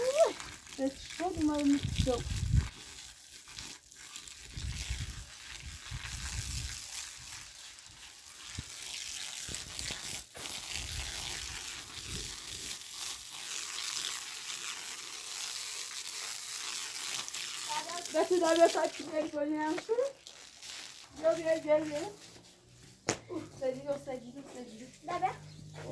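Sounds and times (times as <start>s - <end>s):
hose water splashing on concrete: 0.0s - 25.9s.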